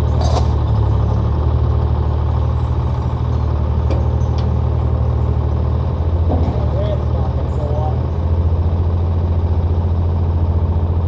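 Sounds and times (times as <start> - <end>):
heavy equipment engine rumbling: 0.0 - 11.0.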